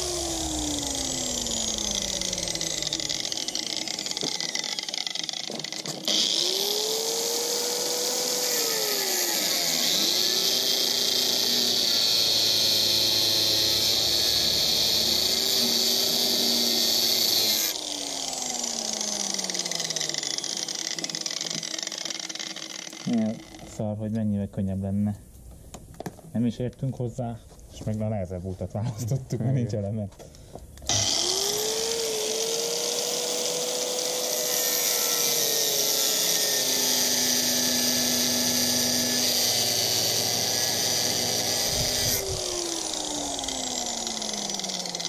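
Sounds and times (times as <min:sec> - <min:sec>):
angle grinder on metal: 0:00.0 - 0:23.9, 0:30.9 - 0:45.0.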